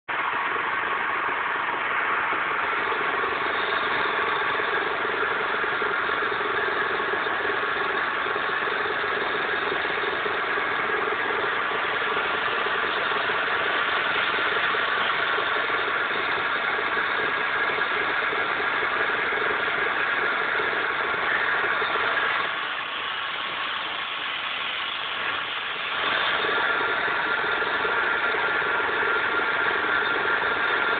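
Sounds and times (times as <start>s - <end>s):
metal lathe humming: 1.4s - 30.9s.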